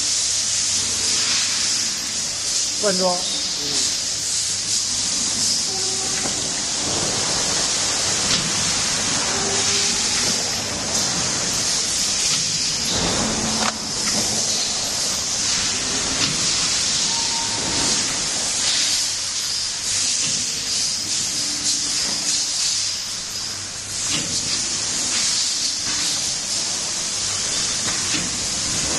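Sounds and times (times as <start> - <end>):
machine hissing: 0.0 - 28.9.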